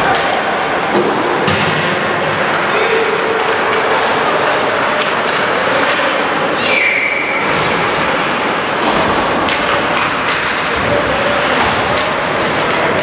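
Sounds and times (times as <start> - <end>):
hockey sticks and puck clacking: 0.0 - 13.0.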